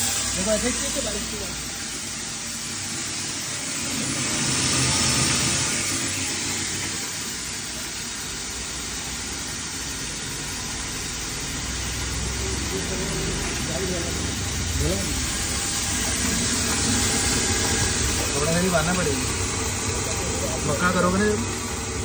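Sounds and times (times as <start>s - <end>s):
grinder machine whirring: 0.0s - 22.0s
rush of grain: 0.0s - 22.0s.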